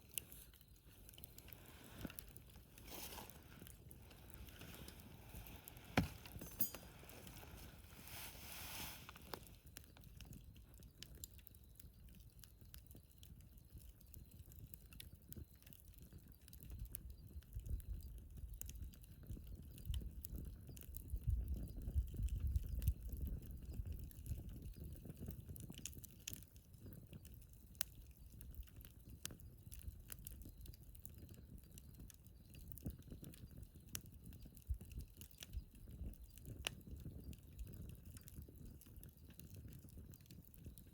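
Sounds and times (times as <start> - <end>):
wood fire crackling: 0.0 - 16.6, 17.2 - 40.9.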